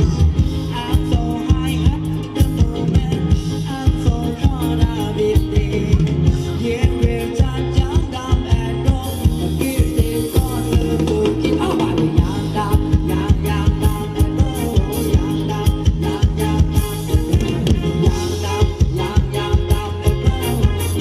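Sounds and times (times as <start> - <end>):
dance band playing: 0.0 - 21.0
person singing: 0.0 - 21.0.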